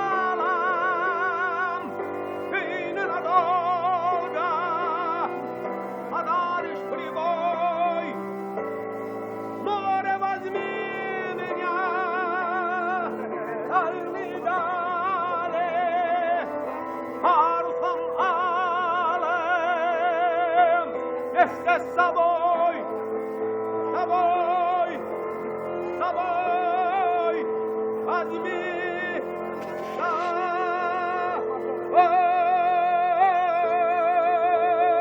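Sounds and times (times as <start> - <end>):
person singing with vibrato: 0.0 - 35.0
sustained accompaniment: 0.0 - 35.0.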